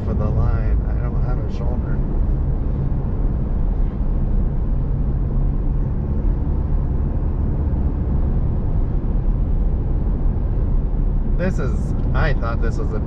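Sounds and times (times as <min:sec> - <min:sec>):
engine and tyre noise in cabin: 0:00.0 - 0:13.0.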